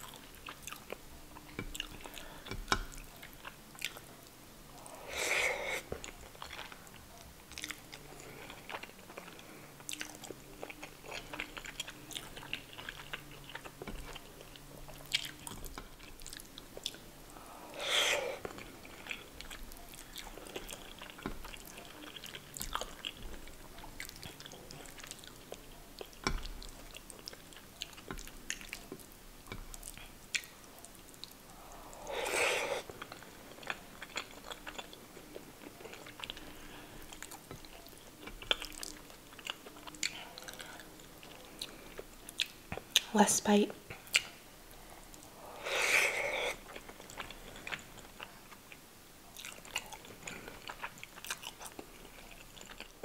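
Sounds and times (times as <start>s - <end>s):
chewing soft food: 0.0s - 43.1s, 43.8s - 53.0s.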